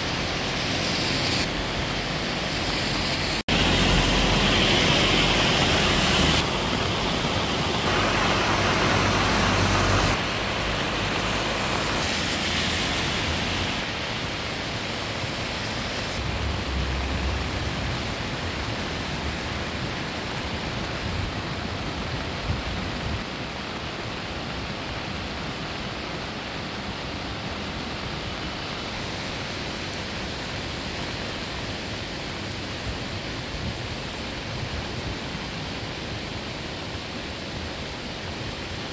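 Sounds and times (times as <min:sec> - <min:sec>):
floodwater rushing in a stream: 0:00.0 - 0:38.9.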